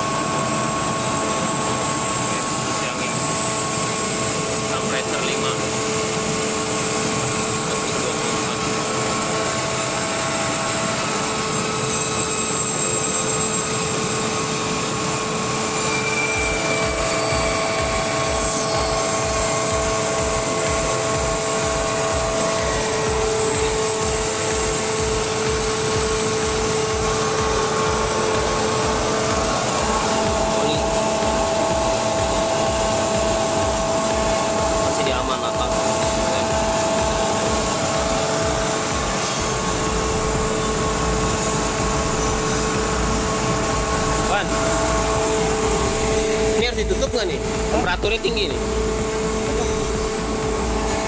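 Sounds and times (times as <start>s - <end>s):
air compressor drone: 0.0s - 51.0s
low rapid pulsing: 0.0s - 51.0s
whining tones: 0.0s - 51.0s.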